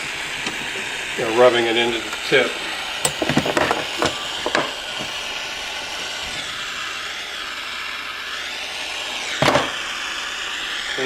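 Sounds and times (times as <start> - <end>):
torch burning with hiss: 0.0 - 11.0.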